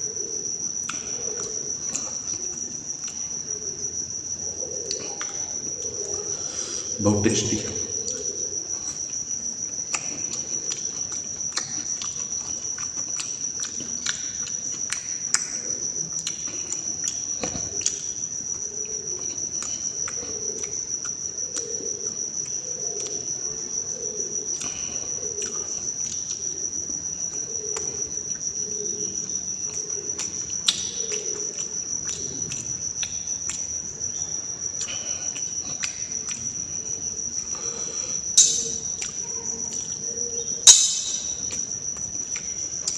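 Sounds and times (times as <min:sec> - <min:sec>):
cricket trilling: 0:00.0 - 0:42.9
person chewing: 0:00.7 - 0:03.6, 0:07.9 - 0:23.2, 0:24.0 - 0:28.4, 0:29.6 - 0:42.9.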